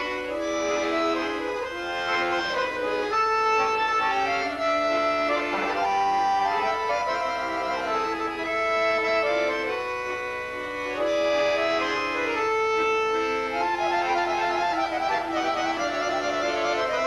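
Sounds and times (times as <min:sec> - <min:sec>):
accordion melody with chords: 0:00.0 - 0:17.0.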